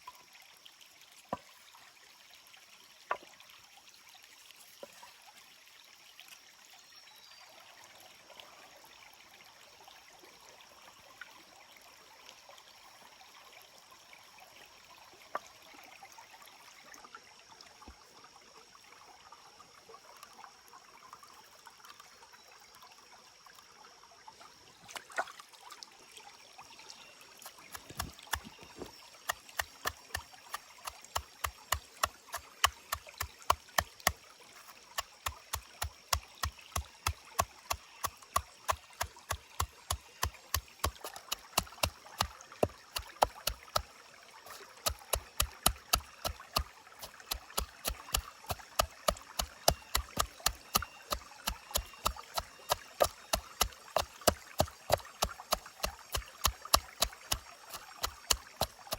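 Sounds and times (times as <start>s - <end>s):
faint stream trickling: 0.0s - 58.9s.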